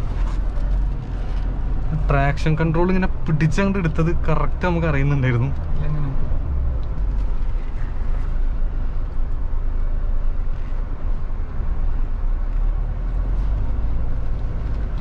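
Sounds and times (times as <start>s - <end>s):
diesel engine rumble inside cabin: 0.0s - 15.0s
tyre and road noise: 0.0s - 15.0s.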